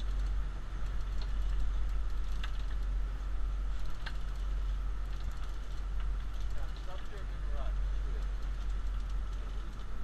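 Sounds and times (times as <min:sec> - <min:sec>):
fishing reel gears whirring: 0:00.0 - 0:10.0
low boat rumble: 0:00.0 - 0:10.0.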